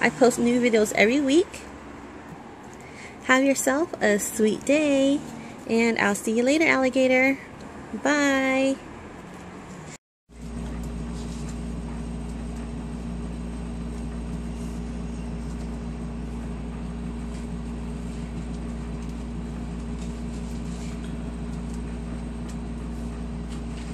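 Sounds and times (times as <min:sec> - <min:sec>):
low mechanical hum: 0:00.0 - 0:23.9.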